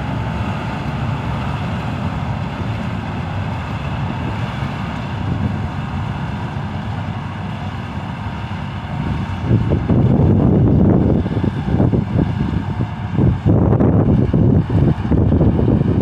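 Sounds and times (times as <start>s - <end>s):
combine harvester drone: 0.0s - 16.0s
wind buffeting microphone: 0.0s - 16.0s.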